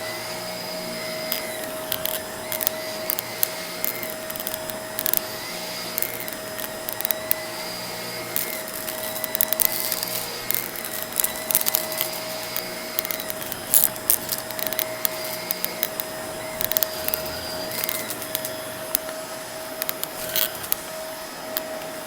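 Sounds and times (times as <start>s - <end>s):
vacuum cleaner whining: 0.0s - 22.0s.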